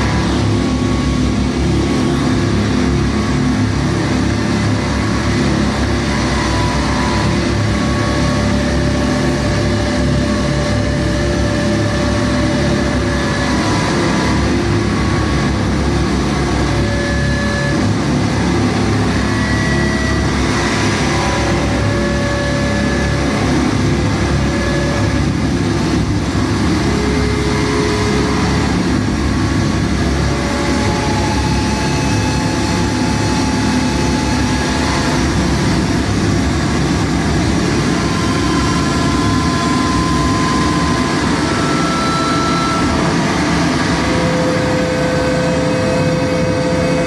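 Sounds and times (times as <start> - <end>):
harsh rumbling noise music: 0.0 - 47.0.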